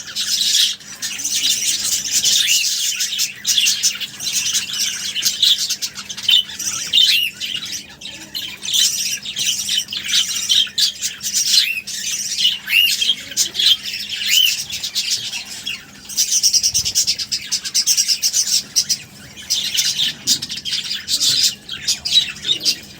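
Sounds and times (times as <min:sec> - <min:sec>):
budgerigars chirping and squawking: 0:00.0 - 0:22.9.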